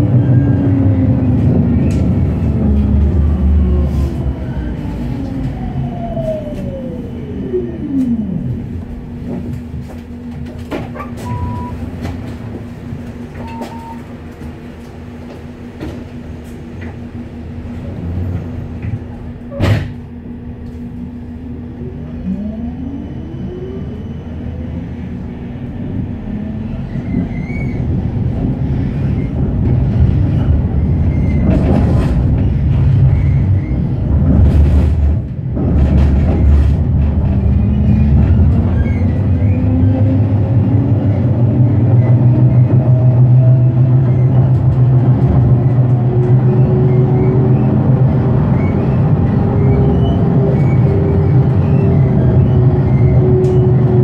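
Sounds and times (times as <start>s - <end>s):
steady tram hum: 0.0s - 54.0s
tram motor whine: 0.0s - 54.0s.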